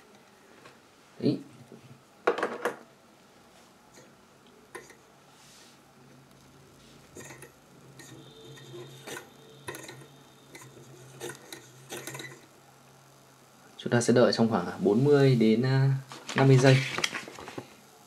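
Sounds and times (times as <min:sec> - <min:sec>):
faint steady low hum: 0:00.0 - 0:18.0.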